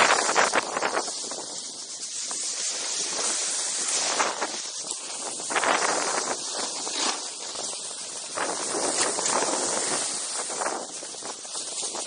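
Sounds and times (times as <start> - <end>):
snowboard scraping over snow: 0.0 - 12.0.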